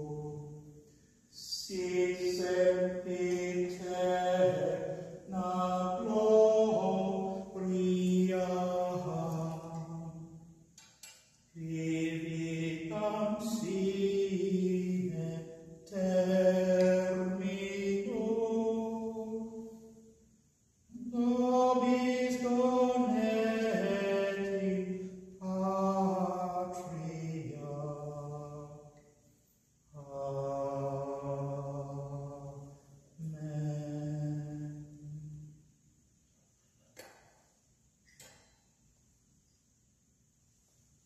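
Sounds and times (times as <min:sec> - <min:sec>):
person singing a chant-like hymn: 0:00.0 - 0:10.5, 0:11.5 - 0:20.2, 0:20.9 - 0:29.1, 0:29.9 - 0:35.6.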